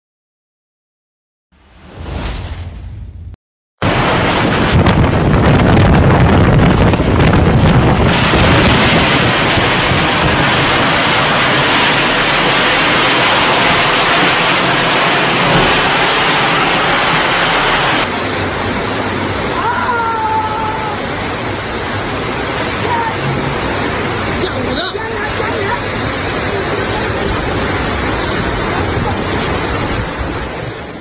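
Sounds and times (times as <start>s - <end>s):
storm wind on microphone: 1.6s - 31.0s.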